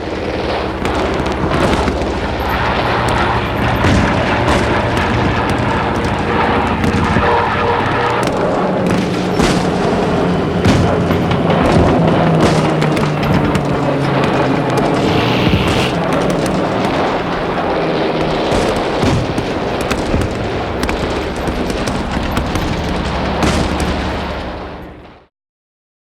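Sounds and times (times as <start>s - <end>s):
dense gunfire: 0.0s - 24.8s
booming explosions: 0.0s - 25.1s.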